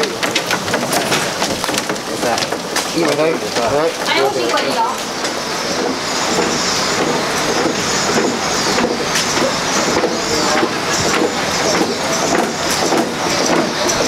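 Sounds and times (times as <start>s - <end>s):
wooden palanquin clattering: 0.0s - 14.0s.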